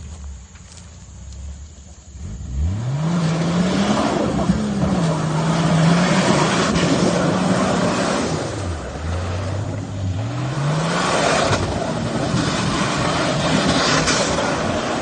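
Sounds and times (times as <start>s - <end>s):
engine revving hard: 2.2s - 15.0s.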